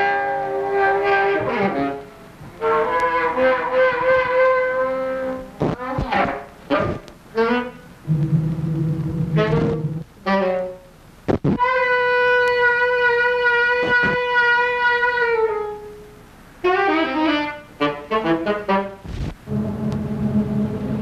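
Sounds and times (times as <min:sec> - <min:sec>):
solo horn playing: 0:00.0 - 0:05.6, 0:06.7 - 0:10.9, 0:11.6 - 0:20.8.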